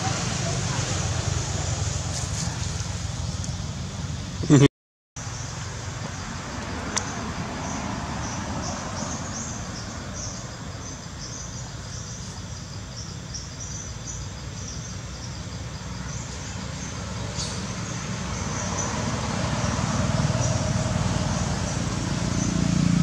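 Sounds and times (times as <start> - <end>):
insects chirping: 0.0 - 4.6, 5.2 - 23.0.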